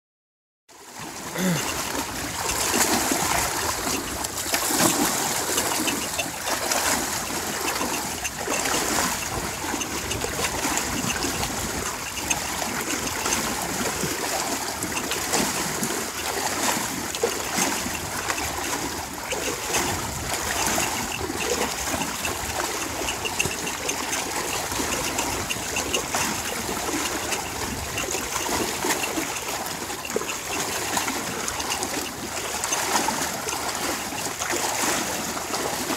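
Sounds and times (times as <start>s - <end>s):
water sloshing and splashing: 0.7s - 35.9s.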